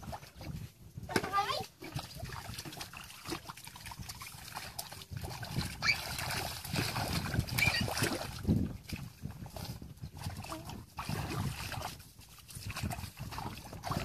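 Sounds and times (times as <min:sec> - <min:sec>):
splashing in muddy water: 0:00.0 - 0:14.0.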